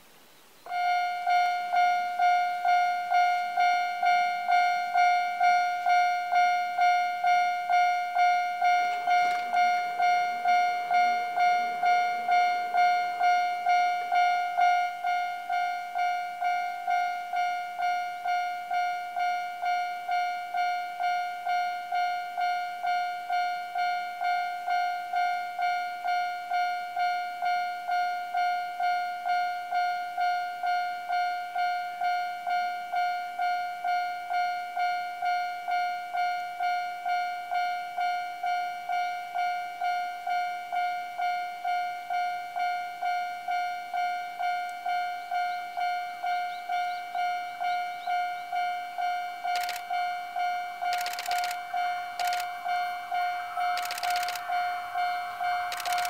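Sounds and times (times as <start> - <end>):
level crossing warning bell ringing: 0.7 - 56.0.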